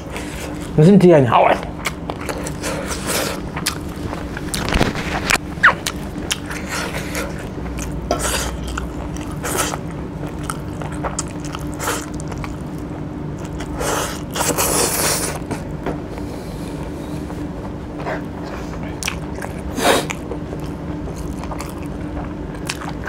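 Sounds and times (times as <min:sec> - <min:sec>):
person chewing food: 0:01.8 - 0:17.4, 0:18.0 - 0:23.0.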